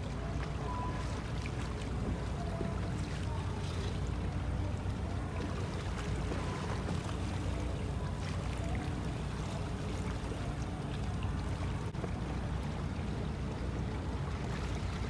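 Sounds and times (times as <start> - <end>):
boat motor droning: 0.0 - 15.0
water rushing along hull: 0.0 - 15.0.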